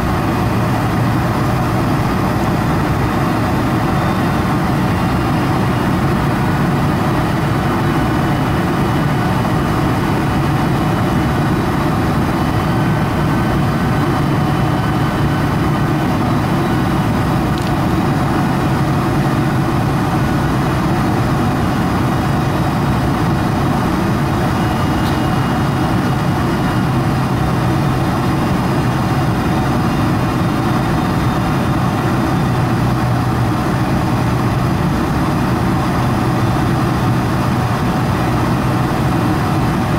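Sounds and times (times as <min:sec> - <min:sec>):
jet engines and rushing airflow: 0:00.0 - 0:39.9.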